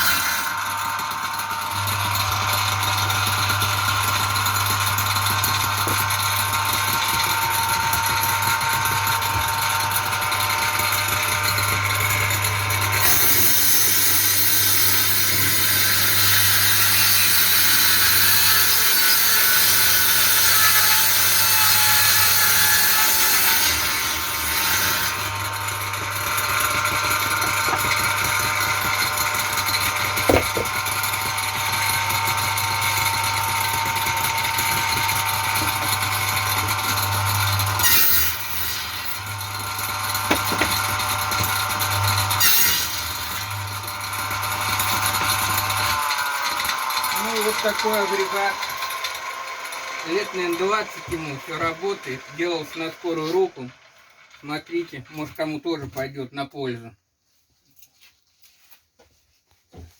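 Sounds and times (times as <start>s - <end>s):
circular saw cutting wood: 0.0s - 55.8s.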